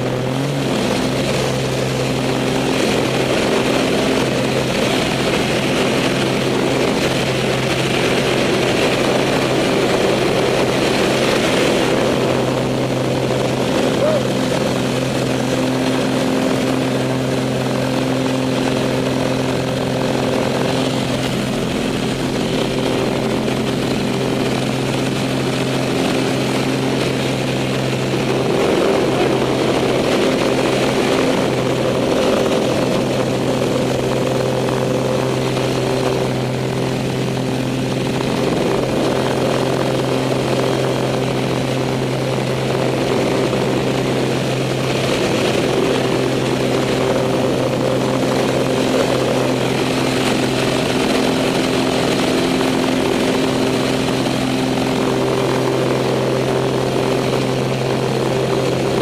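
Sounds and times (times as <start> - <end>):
propeller plane engine running: 0.0 - 59.0.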